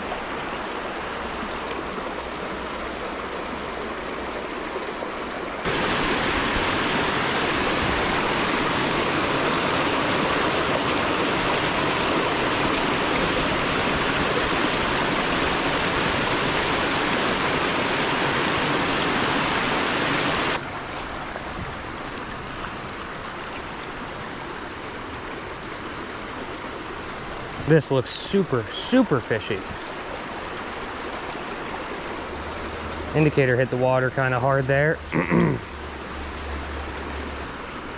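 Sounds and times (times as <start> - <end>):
creek water rushing over rocks: 0.0 - 37.9.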